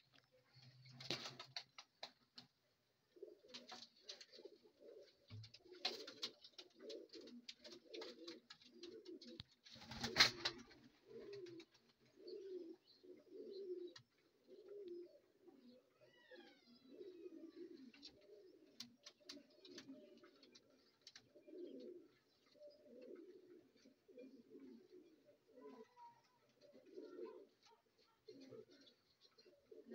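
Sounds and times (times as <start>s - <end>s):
pigeon cooing: 3.1s - 29.9s.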